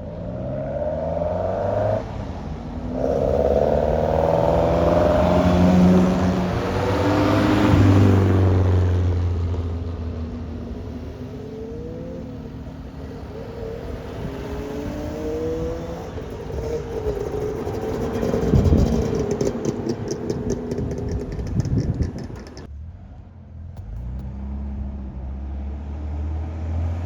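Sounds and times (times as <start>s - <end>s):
car engines accelerating: 0.0s - 27.0s.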